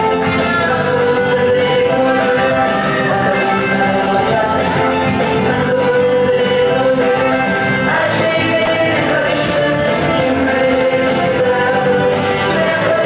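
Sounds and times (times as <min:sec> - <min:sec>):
song with steady beat: 0:00.0 - 0:13.0.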